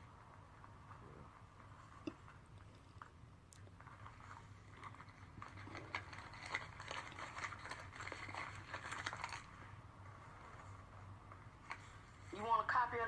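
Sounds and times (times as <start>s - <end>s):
small clicks and rustles: 0.0s - 12.4s
faint low hum: 0.0s - 13.0s.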